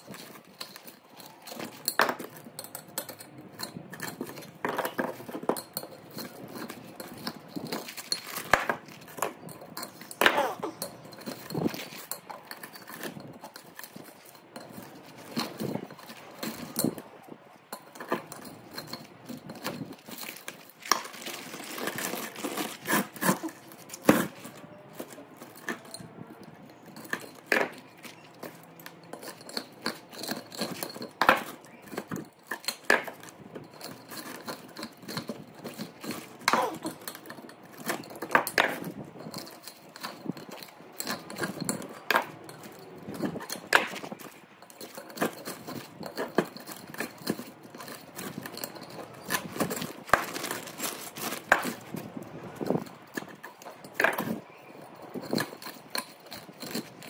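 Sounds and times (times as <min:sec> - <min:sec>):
hand tools clinking on metal: 0:00.0 - 0:57.0.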